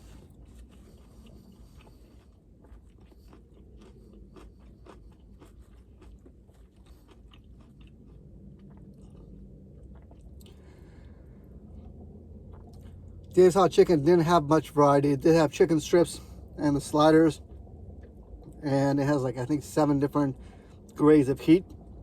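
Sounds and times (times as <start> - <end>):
person chewing crunchy food: 0.0 - 14.7, 16.1 - 22.0.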